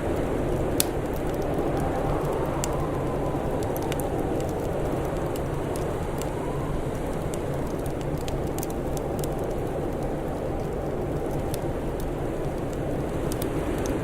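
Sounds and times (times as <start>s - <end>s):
fire crackling and popping: 0.0s - 14.0s
low rush of noise: 0.0s - 14.0s.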